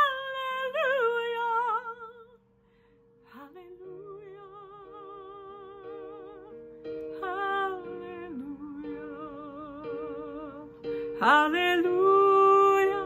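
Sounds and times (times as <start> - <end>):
woman singing with vibrato: 0.0 - 2.4, 3.3 - 13.0.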